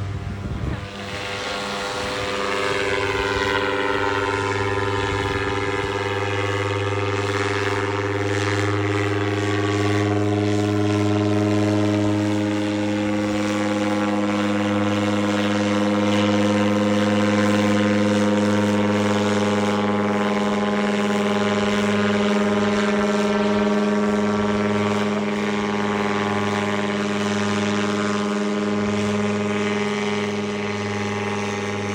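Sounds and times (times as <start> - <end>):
paramotor engine droning: 0.0 - 31.9.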